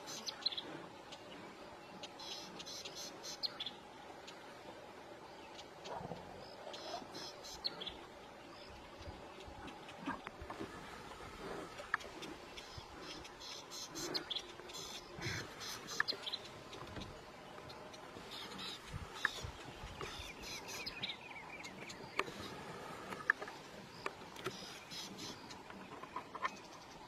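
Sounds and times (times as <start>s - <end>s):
birds chirping: 0.0s - 27.0s
low background hiss: 0.0s - 27.0s.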